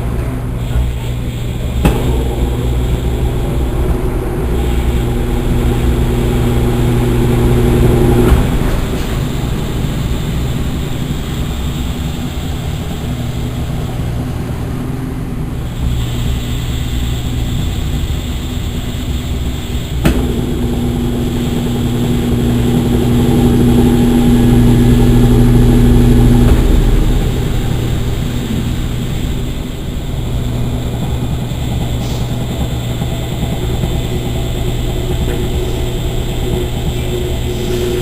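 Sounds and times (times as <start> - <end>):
motor hum with clear tone: 0.0 - 38.0
washing machine running: 0.0 - 38.0.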